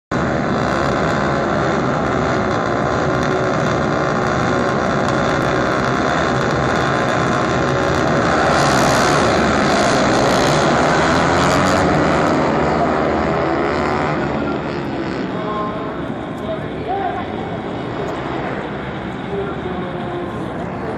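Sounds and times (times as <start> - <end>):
motorcycle engine running: 0.1 - 20.9.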